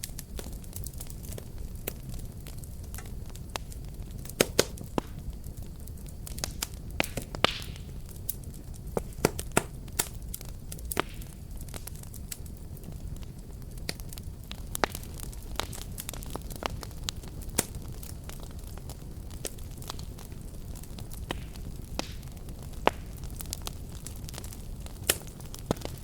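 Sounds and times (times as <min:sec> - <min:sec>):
fire crackling and popping: 0:00.0 - 0:26.0
low rumble of flame: 0:00.0 - 0:26.0.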